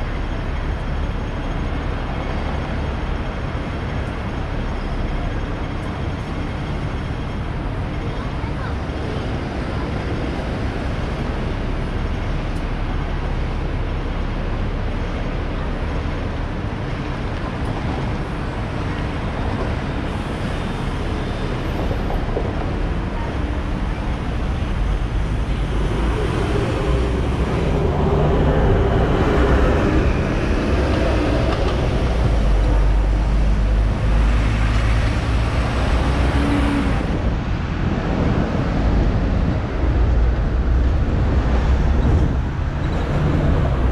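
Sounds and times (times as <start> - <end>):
city traffic noise: 0.0 - 43.9
tram rumbling on rails: 0.0 - 43.9.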